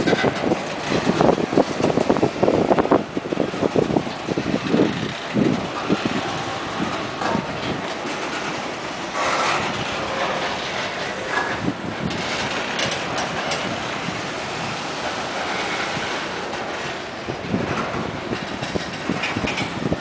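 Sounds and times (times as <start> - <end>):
train wheels rolling on rails: 0.0 - 20.0
wheels clacking over rail joints: 0.0 - 20.0.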